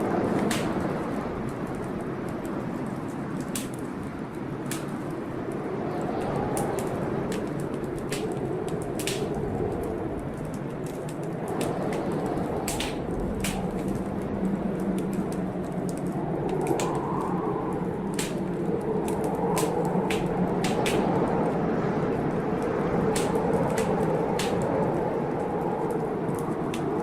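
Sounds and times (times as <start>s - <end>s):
rain: 0.0s - 27.0s
storm wind: 0.0s - 27.0s
wood fire crackling: 0.0s - 27.0s.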